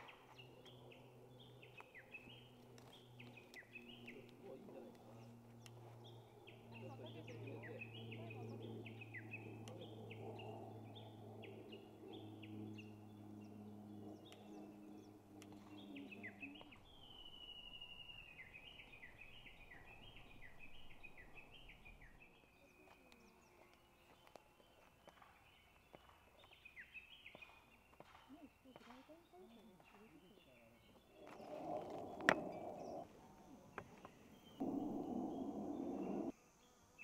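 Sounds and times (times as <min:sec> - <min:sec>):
low steady hum: 0:00.0 - 0:24.0, 0:30.6 - 0:36.4
small birds chirping: 0:00.0 - 0:36.8.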